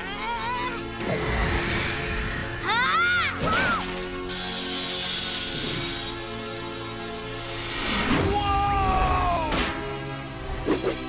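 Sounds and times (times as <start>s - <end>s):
action background music: 0.1s - 11.0s.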